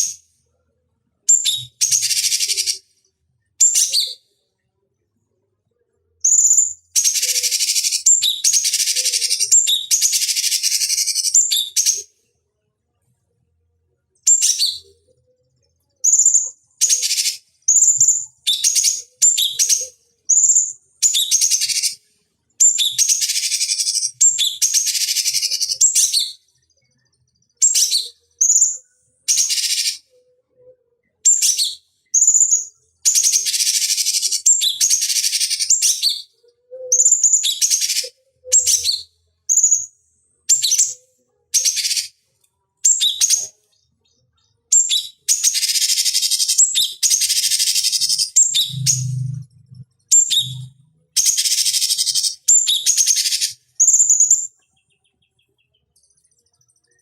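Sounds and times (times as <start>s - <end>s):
bird chirping and chattering: 1.3s - 2.8s, 3.6s - 4.2s, 6.2s - 12.1s, 14.3s - 15.0s, 16.0s - 22.0s, 22.6s - 30.2s, 31.0s - 39.9s, 40.5s - 42.2s, 42.8s - 57.0s.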